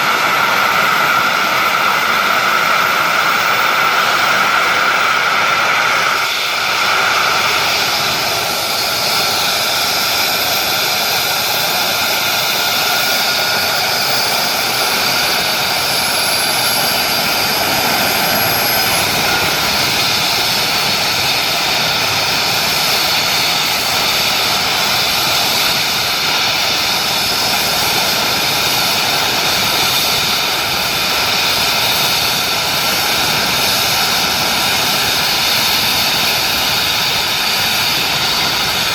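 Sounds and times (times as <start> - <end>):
faint high whine: 0.0 - 38.9
helicopter turbine engines: 0.0 - 38.9.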